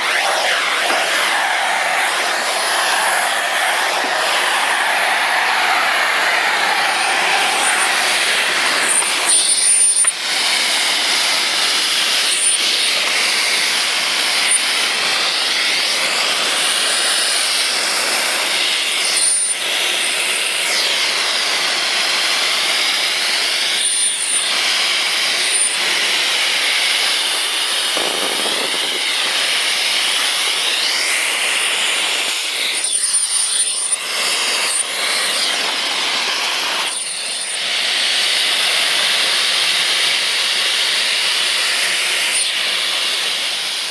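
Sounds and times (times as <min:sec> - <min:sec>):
dust extractor running: 0:00.0 - 0:43.9.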